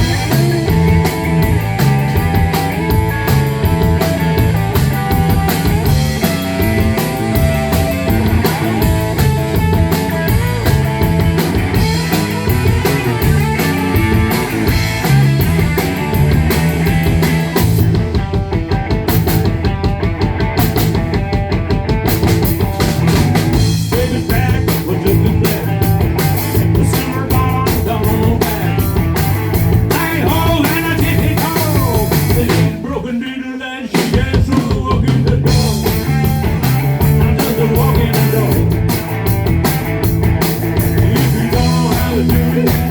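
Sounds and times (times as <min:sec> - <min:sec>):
rock band music: 0:00.0 - 0:42.9.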